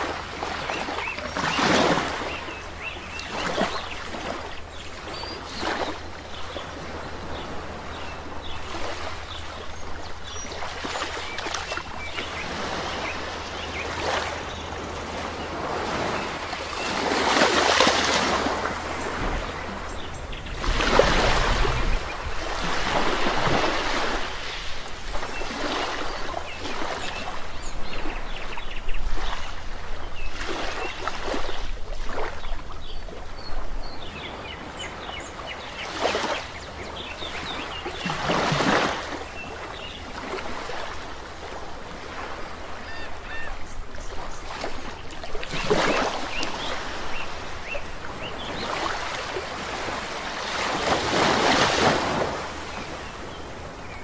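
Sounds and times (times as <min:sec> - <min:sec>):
sea waves washing onto shore: 0:00.0 - 0:54.0
birds chirping: 0:00.4 - 0:41.2, 0:41.8 - 0:54.0.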